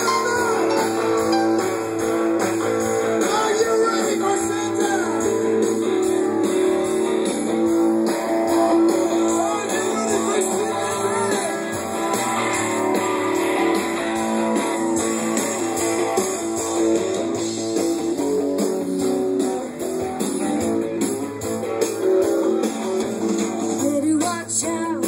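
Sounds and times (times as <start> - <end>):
guitar music: 0.0 - 25.0.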